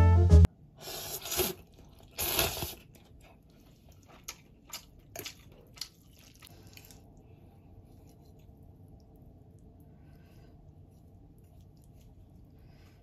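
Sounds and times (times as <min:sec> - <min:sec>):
noisy eating sounds: 0:00.8 - 0:13.0.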